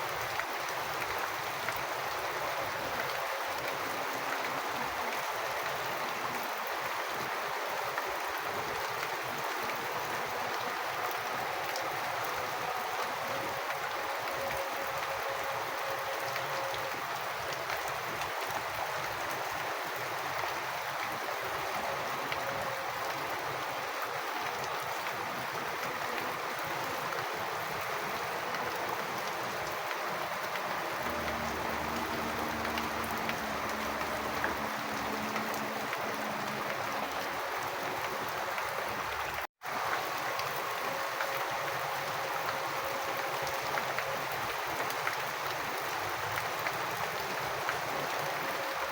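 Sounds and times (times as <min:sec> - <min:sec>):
running rainwater: 0:00.0 - 0:48.9
steady rain: 0:00.0 - 0:48.9.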